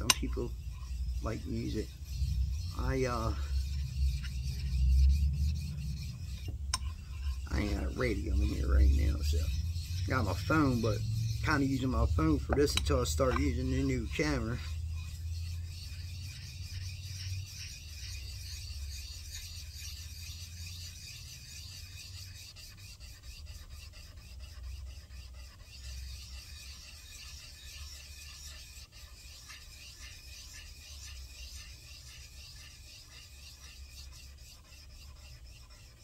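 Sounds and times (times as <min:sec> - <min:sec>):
metal scraping on abrasive sheet: 0:00.0 - 0:36.0.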